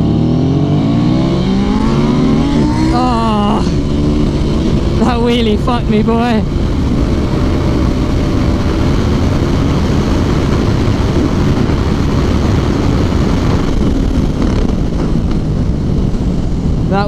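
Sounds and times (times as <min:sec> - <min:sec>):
motorcycle engine roaring: 0:00.0 - 0:17.0
wind rush on microphone: 0:00.0 - 0:17.0.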